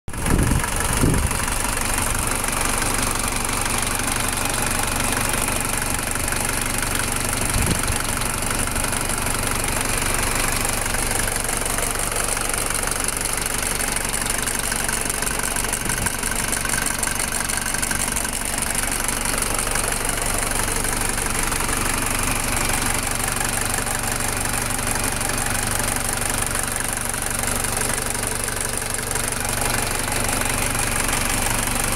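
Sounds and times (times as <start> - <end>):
diesel engine idling: 0.1 - 31.9.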